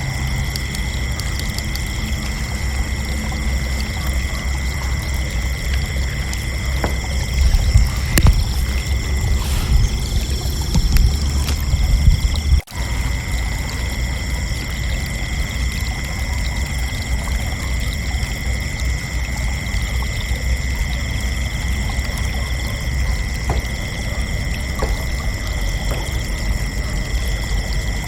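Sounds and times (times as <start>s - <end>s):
crickets trilling: 0.0s - 28.0s
steady low rumble: 0.0s - 28.0s.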